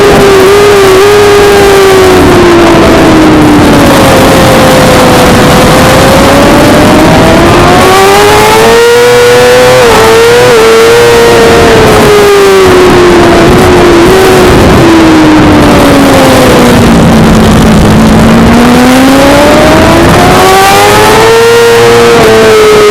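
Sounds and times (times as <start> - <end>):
motorcycle engine at high revs: 0.0 - 22.9
rushing wind noise: 0.0 - 22.9.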